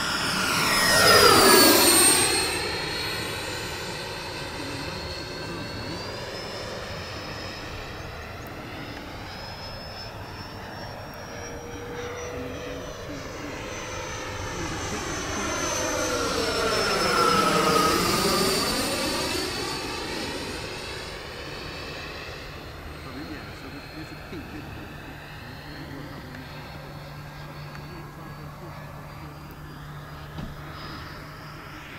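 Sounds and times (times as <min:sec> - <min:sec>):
model jet ducted fan whining: 0:00.0 - 0:31.9.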